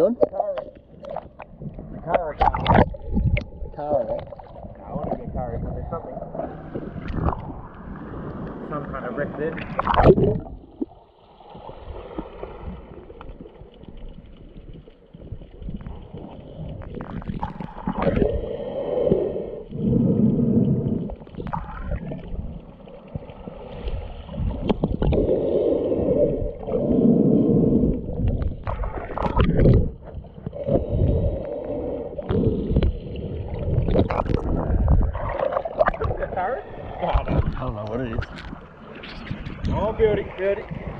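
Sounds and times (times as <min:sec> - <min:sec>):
water gurgling and sloshing underwater: 0:00.0 - 0:40.9.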